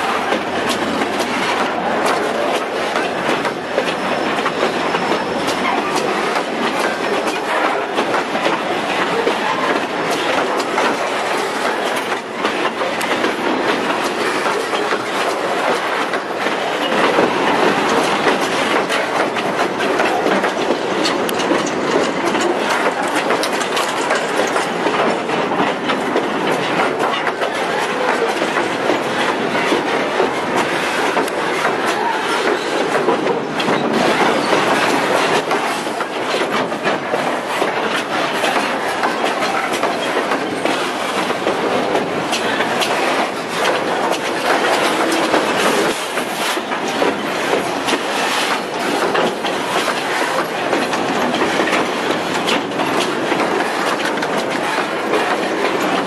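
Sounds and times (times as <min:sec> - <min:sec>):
freight train rattling rumble: 0:00.0 - 0:56.0
wheels clicking over rails: 0:00.0 - 0:56.0.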